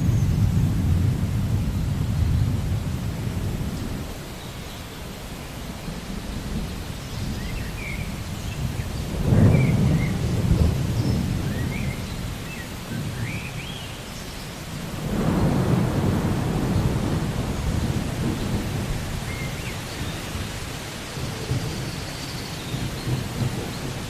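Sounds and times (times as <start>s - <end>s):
rolling thunder: 0.0s - 4.4s, 5.9s - 13.4s, 14.8s - 24.0s
rain falling: 0.0s - 24.0s.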